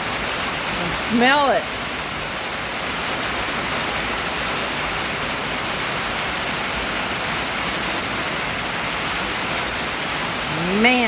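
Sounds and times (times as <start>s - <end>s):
rain on a tin roof: 0.0s - 11.0s.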